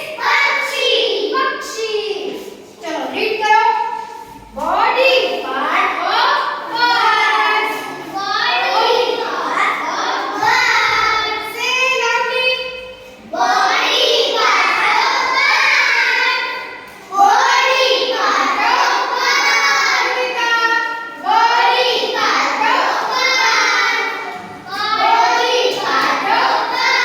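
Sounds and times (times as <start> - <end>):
children chanting: 0.0 - 1.7, 6.0 - 27.0.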